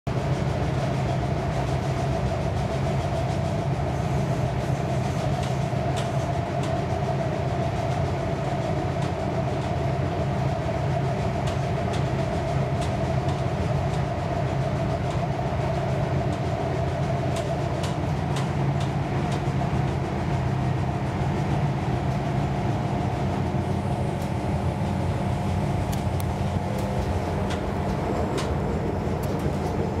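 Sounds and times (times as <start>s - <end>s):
train carriage rumble and hum: 0.1s - 30.0s.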